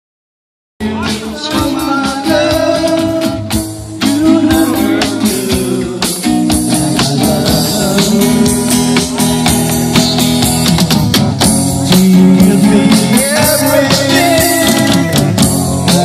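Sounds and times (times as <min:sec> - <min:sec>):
guitar: 0:00.8 - 0:16.0
steady percussive beat: 0:00.8 - 0:16.0.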